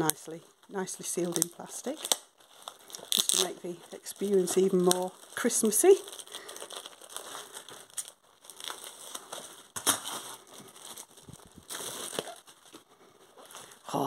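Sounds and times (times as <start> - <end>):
plastic shrink-wrap crinkling: 0.0 - 14.0.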